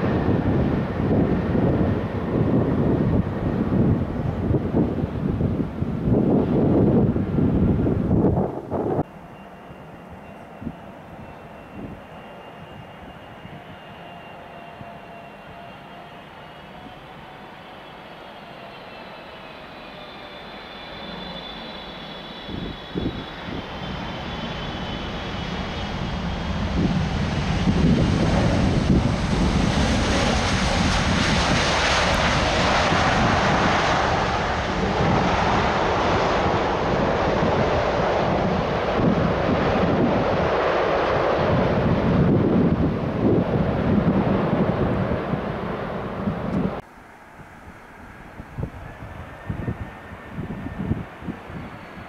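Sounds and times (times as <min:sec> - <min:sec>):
jet engine whine: 0:00.0 - 0:52.0
loud steady jet roar: 0:00.0 - 0:52.0.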